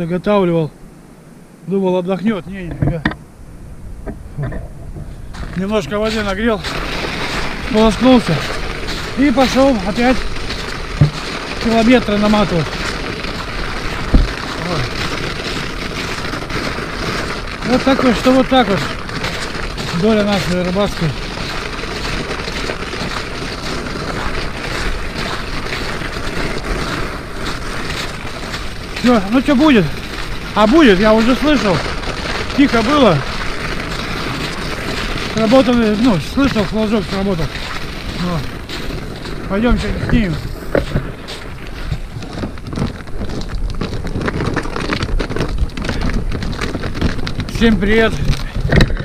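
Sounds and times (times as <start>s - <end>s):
wind buffeting microphone: 2.2s - 49.0s
footsteps crunching through snow: 4.3s - 49.0s.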